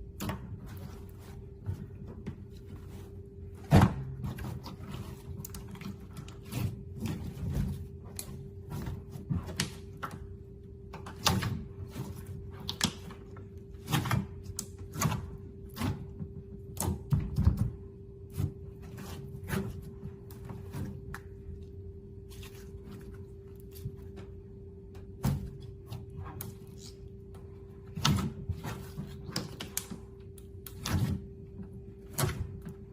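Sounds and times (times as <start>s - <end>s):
steady hum: 0.0s - 32.9s.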